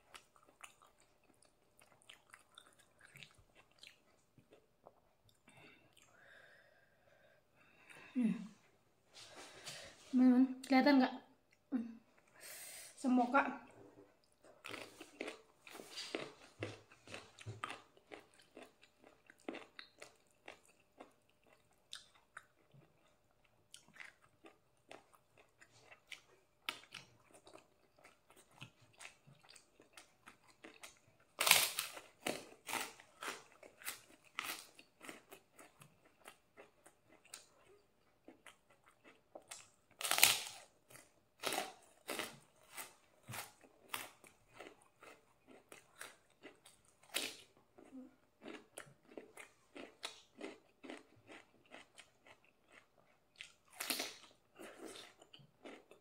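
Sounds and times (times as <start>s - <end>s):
chewing and crunching lettuce: 0.0s - 6.2s, 13.4s - 56.0s.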